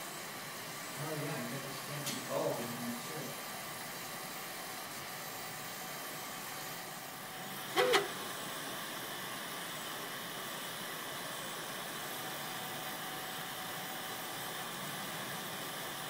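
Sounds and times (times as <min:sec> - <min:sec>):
printer fan and motors whirring: 0:00.0 - 0:16.0.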